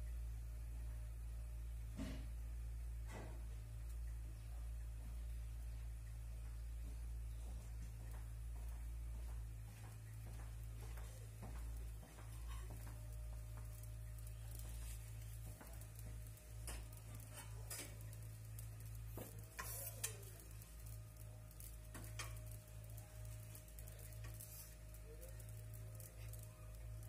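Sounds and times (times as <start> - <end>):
gas burner roaring: 0.0 - 27.0
light clicks and ticks: 0.0 - 27.0.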